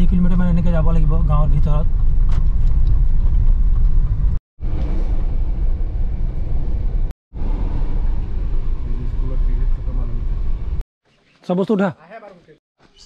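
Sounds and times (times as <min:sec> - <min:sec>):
vehicle engine and road rumble: 0:00.0 - 0:10.8.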